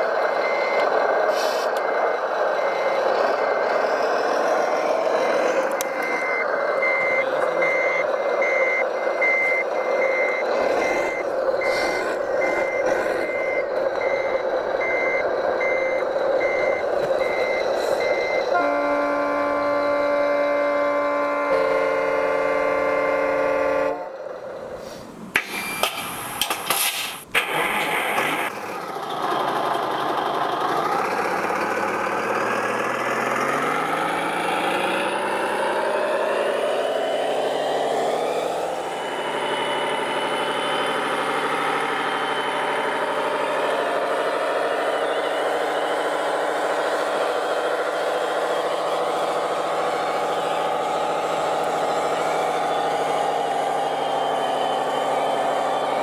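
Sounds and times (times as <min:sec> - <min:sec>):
model truck engine: 0:00.0 - 0:56.0.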